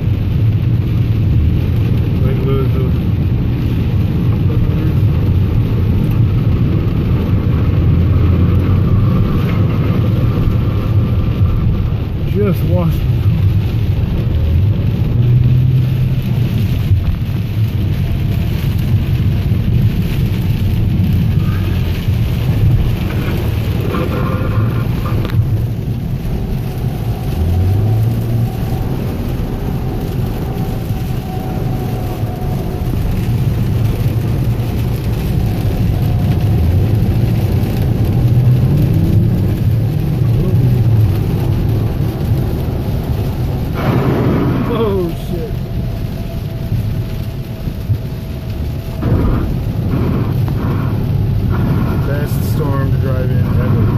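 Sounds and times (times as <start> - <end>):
car engine: 0.0 - 53.9
rain on car: 0.0 - 53.9
tyres on wet road: 0.0 - 53.9.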